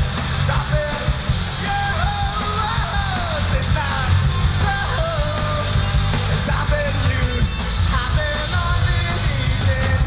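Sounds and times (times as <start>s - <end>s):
man singing and shouting: 0.0s - 10.0s
rock band playing live: 0.0s - 10.0s.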